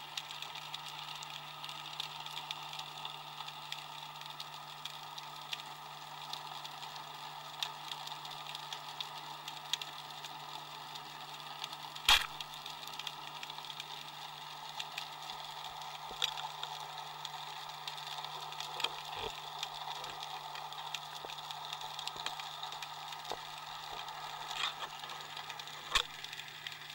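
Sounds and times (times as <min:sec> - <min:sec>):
underwater low hum and hiss: 0:00.0 - 0:26.9
small clicks: 0:00.1 - 0:26.9.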